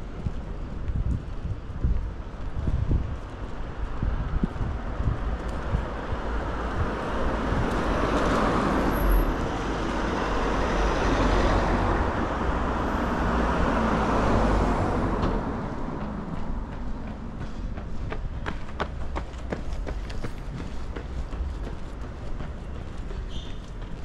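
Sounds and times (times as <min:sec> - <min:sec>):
cars passing close by: 0:03.2 - 0:24.0.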